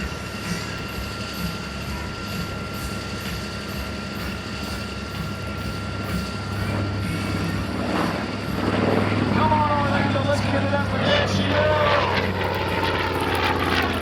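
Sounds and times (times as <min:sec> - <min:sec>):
airplane propeller engines droning: 0:00.0 - 0:14.0.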